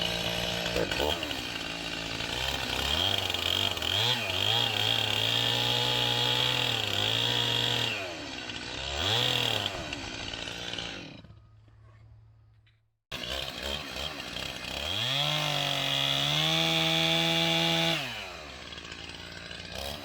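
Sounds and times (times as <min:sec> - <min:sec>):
chainsaw cutting wood: 0:00.0 - 0:11.5, 0:13.1 - 0:20.0.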